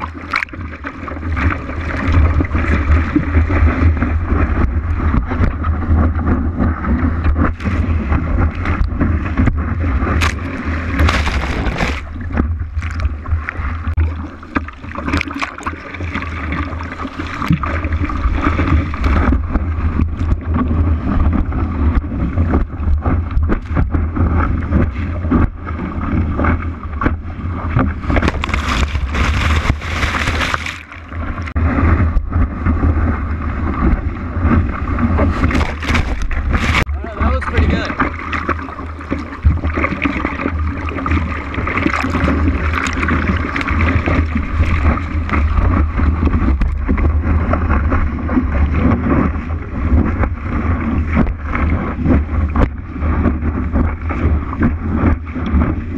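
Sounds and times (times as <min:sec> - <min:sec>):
rushing water: 0:00.0 - 0:55.9
wind rumble on microphone: 0:00.0 - 0:55.9.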